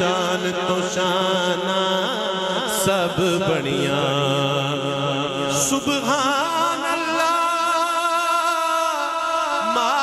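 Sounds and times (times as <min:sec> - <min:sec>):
man singing into microphone: 0:00.0 - 0:10.0.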